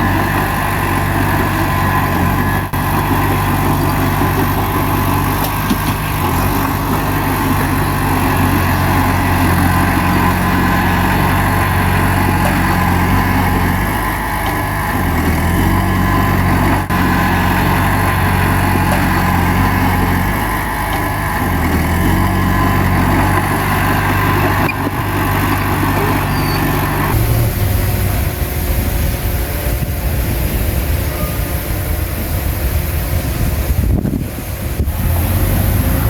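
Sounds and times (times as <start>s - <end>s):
bulldozer diesel engine: 0.0s - 36.0s.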